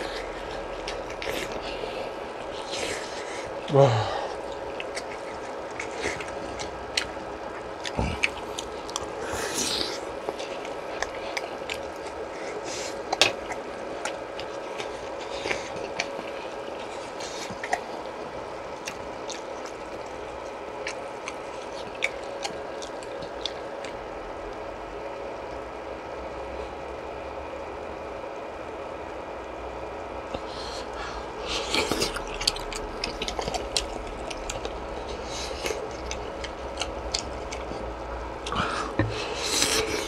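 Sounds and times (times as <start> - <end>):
chewing and wet eating noises: 0.0 - 40.0
steady background hum: 0.0 - 40.0.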